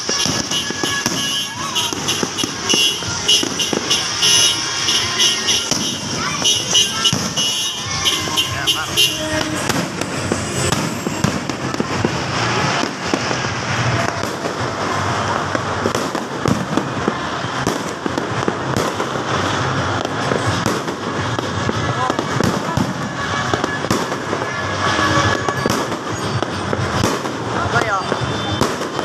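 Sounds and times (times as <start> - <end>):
fireworks popping and crackling: 0.0 - 29.0.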